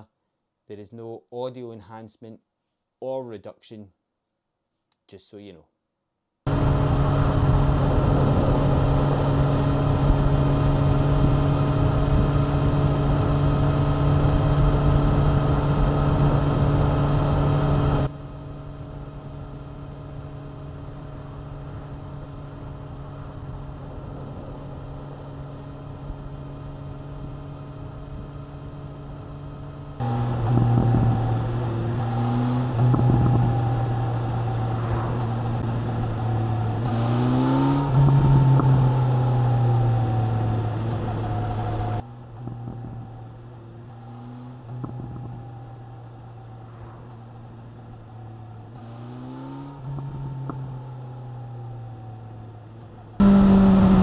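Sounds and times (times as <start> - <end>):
motorcycle engine drone: 6.5 - 54.0
wind and road noise: 6.5 - 54.0.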